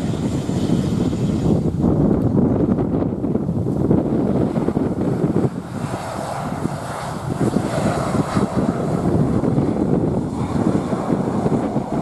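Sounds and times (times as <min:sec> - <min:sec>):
jet engines rumbling: 0:00.0 - 0:12.0
wind buffeting microphone: 0:00.0 - 0:12.0.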